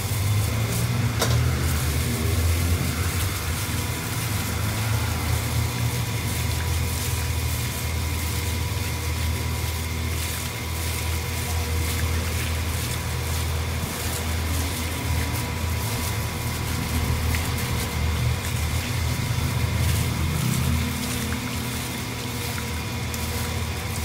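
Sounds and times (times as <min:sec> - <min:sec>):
low mechanical hum: 0:00.0 - 0:24.0
wet squishing of kneaded meat: 0:00.0 - 0:24.0.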